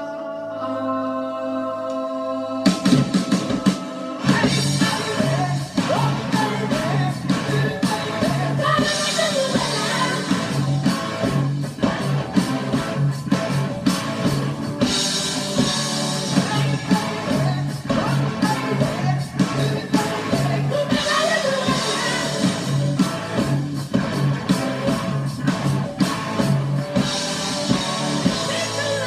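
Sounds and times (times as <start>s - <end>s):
rock song with vocals: 0.0s - 29.0s.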